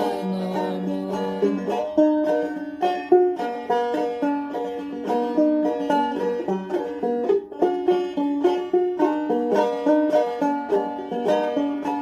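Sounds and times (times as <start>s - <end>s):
banjo picking: 0.0s - 12.0s.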